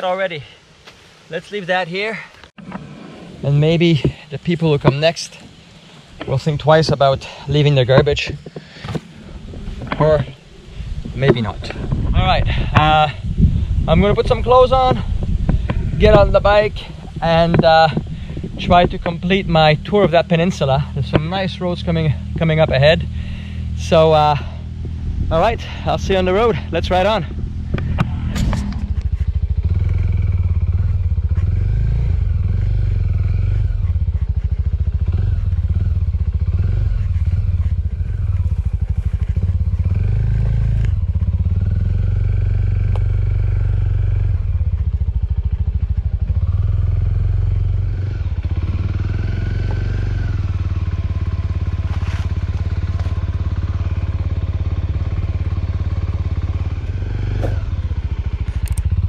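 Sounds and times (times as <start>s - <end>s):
motorcycle engine revving: 2.5s - 59.0s.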